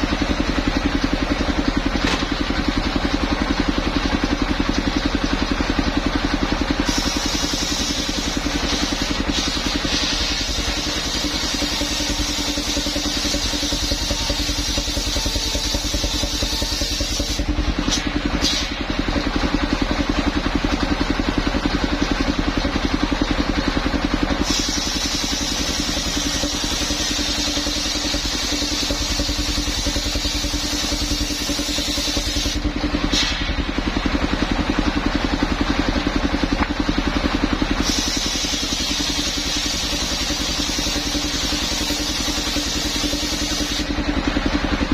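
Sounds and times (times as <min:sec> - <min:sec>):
sawmill engine sawing log: 0:00.0 - 0:44.9.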